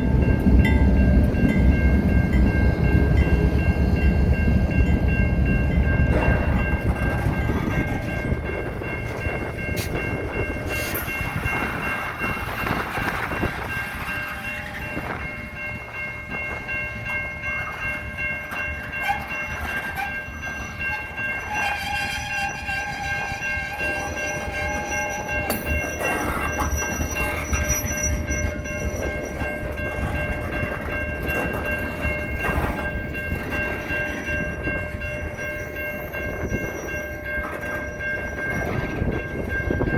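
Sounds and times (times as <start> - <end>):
strong gusting wind: 0.0 - 39.9.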